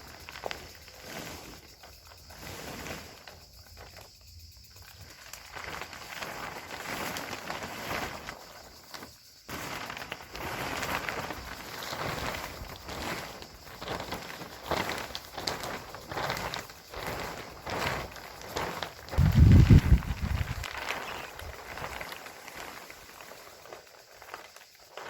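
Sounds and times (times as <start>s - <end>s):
plastic sheeting rustling: 0.0s - 25.0s.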